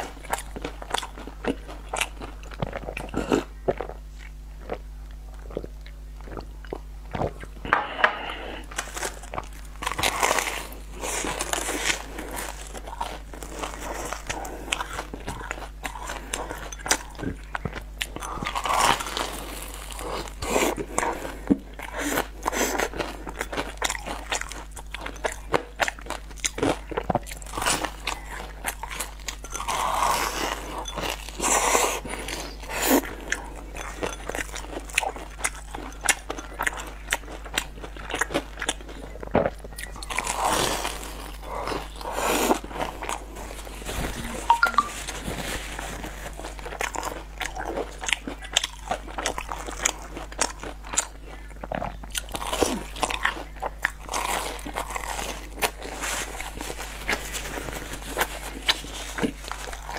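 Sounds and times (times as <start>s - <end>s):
crunchy doughnut bites and chewing: 0.0s - 7.8s, 8.6s - 59.9s.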